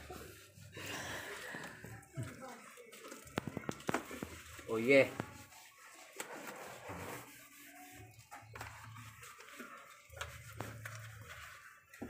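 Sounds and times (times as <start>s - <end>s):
sponge rubbing on plastic: 0.0s - 12.0s.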